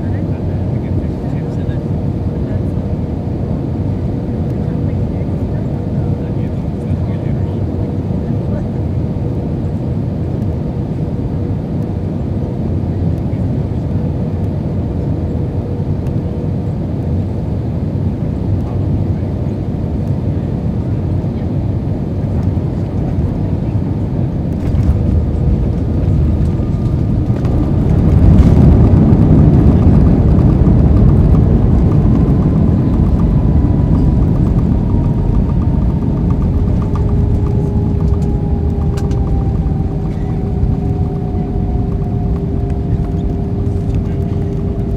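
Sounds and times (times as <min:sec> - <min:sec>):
aircraft cabin roar: 0:00.0 - 0:44.9
runway rumble: 0:00.0 - 0:44.9.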